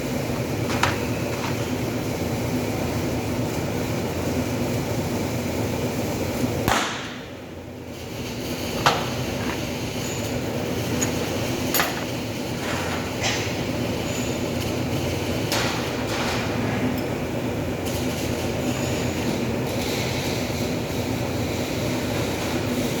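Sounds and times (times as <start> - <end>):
workshop hum: 0.0 - 23.0.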